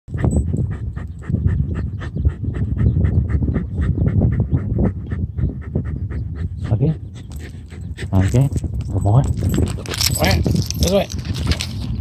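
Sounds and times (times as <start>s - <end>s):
dog panting rapidly: 0.1s - 10.6s.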